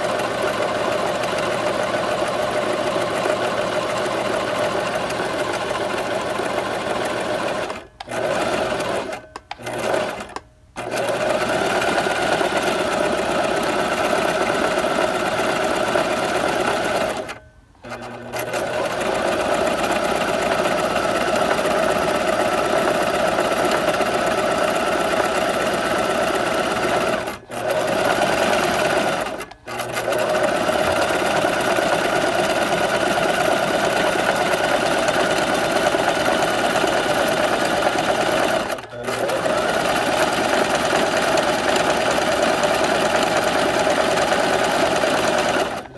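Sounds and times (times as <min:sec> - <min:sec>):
electric sewing machine running: 0:00.0 - 0:45.9.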